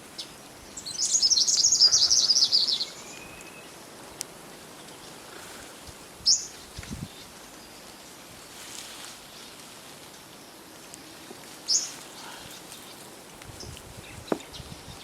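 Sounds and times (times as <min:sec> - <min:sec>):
forest ambience: 0:00.0 - 0:15.0.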